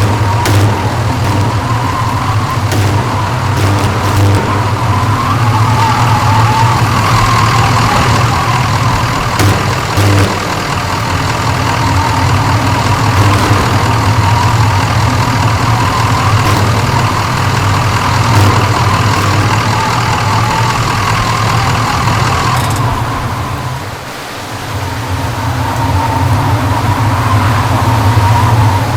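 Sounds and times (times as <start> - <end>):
car engine: 0.0 - 28.9
road noise: 0.0 - 28.9.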